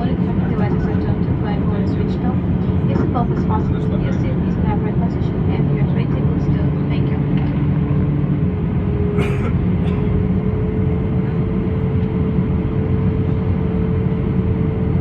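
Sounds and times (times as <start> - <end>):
airliner low rumble: 0.0 - 15.0
constant hum: 0.0 - 15.0.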